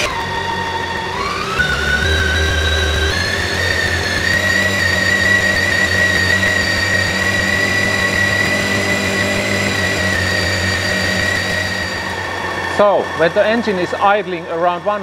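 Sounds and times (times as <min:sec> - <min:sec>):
high whine over engine: 0:00.0 - 0:15.0
motorcycle engine at raised revs: 0:00.0 - 0:15.0.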